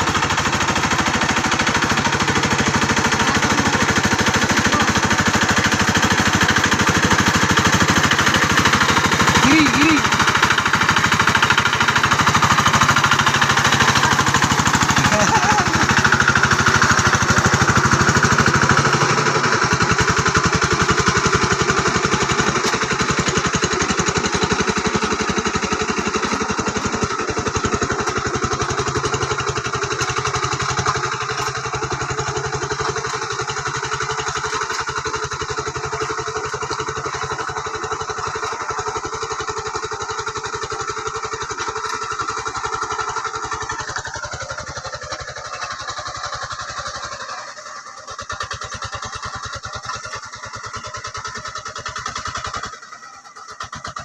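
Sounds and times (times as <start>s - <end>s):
hand tractor engine running: 0.0s - 54.0s.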